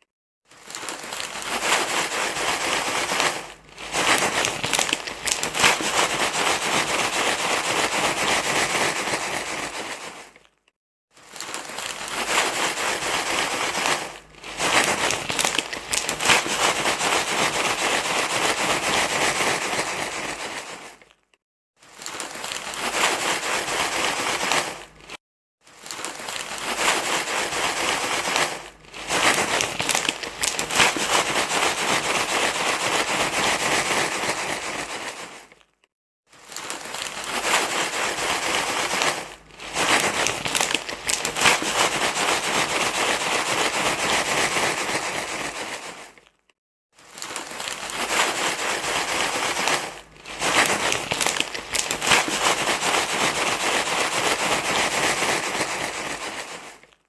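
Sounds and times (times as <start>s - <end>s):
loud crinkling rustle: 0.5s - 57.0s.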